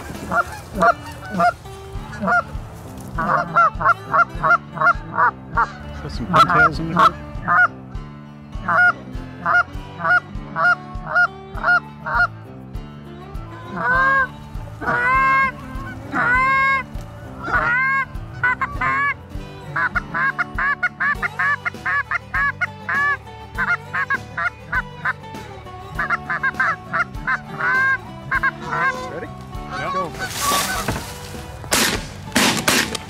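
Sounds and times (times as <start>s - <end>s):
geese clucking: 0.0s - 8.0s, 8.6s - 12.3s, 13.5s - 33.0s
geese honking: 0.0s - 12.3s, 13.3s - 33.0s.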